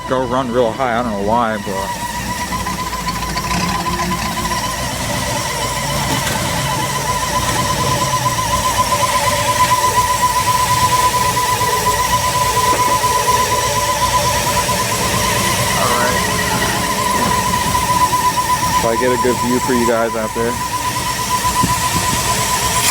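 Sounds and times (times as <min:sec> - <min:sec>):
engine at high fast idle: 0:00.0 - 0:22.9
steady high whine: 0:00.0 - 0:22.9.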